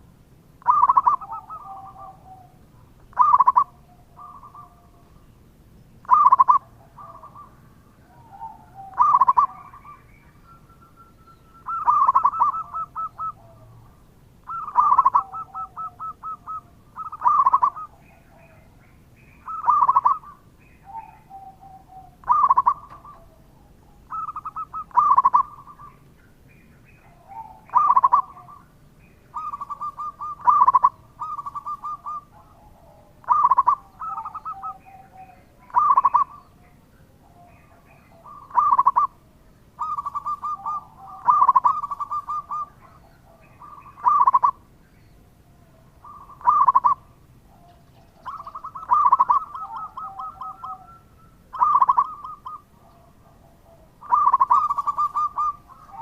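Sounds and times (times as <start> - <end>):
dove stuttering coo song: 0.0 - 5.2, 6.0 - 44.8, 45.4 - 56.0.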